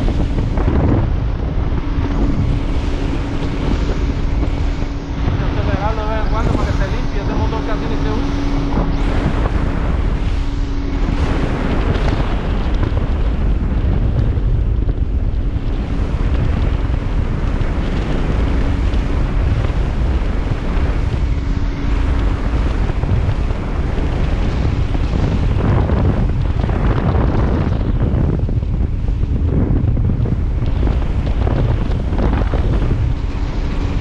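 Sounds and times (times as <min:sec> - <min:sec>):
boat engine drone: 0:00.0 - 0:34.0
hull on water: 0:00.0 - 0:34.0
wind buffeting microphone: 0:00.0 - 0:34.0.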